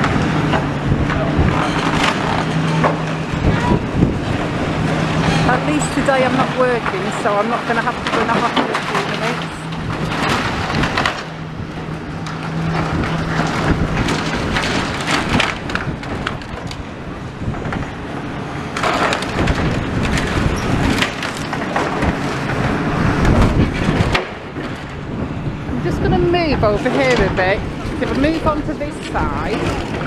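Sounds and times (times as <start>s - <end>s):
rubble crunching and splintering: 0.0s - 25.8s
excavator engine humming: 0.0s - 30.0s
wind buffeting microphone: 0.0s - 30.0s.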